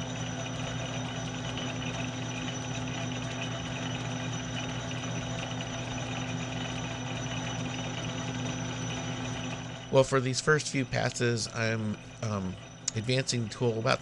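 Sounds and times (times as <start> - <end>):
metal lathe humming: 0.0 - 14.0.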